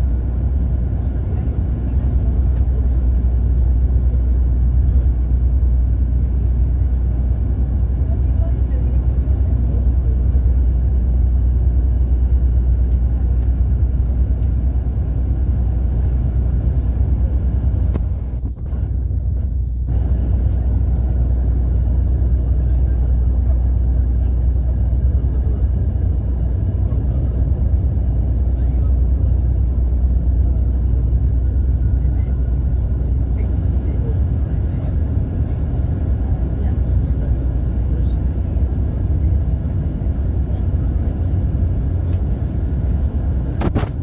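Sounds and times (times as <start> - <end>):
engine and tyre rumble: 0.0 - 44.0.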